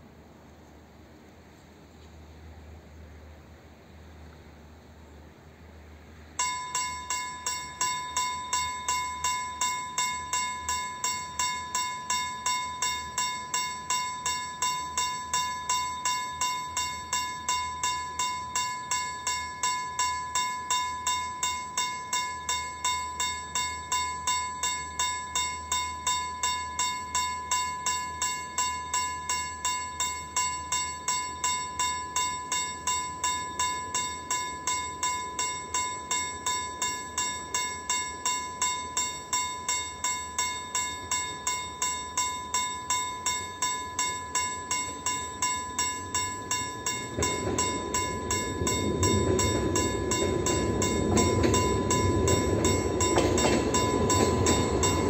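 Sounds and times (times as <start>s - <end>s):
level crossing warning bell: 6.4s - 55.0s.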